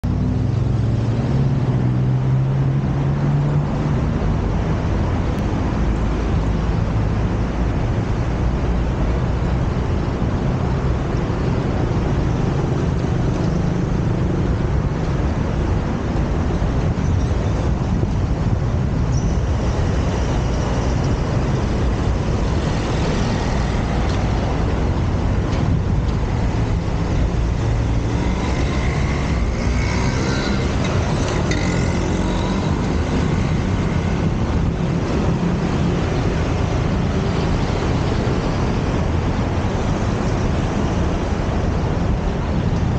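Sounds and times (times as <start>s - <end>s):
cars and buses passing: 0.0s - 42.9s.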